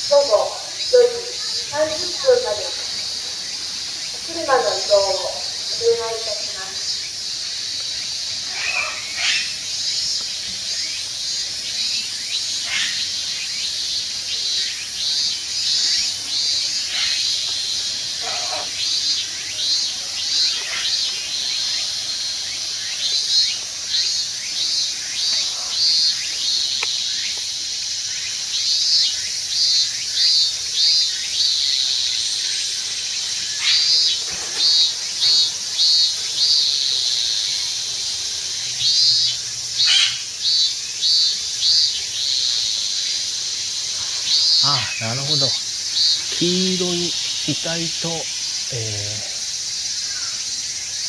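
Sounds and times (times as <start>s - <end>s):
steady high hiss: 0.0s - 51.0s.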